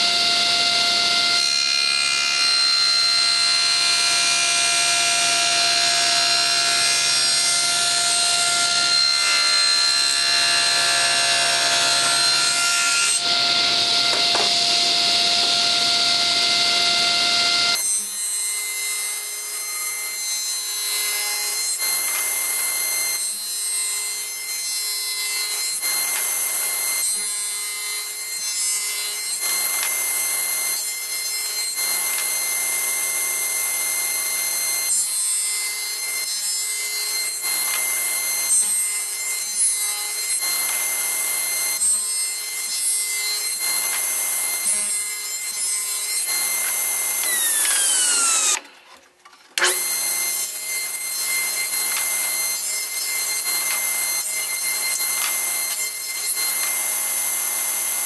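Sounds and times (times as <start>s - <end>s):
saw motor whine: 0.0s - 49.0s, 49.6s - 58.0s
table saw cutting wood: 0.0s - 58.0s.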